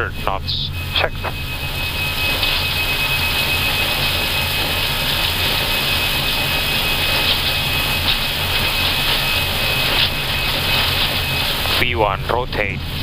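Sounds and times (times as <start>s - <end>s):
jet engine roaring: 0.0s - 13.0s
thin high whine: 0.0s - 13.0s.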